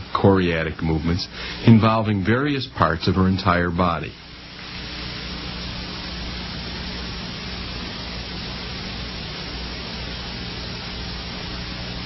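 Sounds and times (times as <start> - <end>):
low electrical hum: 0.0 - 12.0
tape hiss: 0.0 - 12.0.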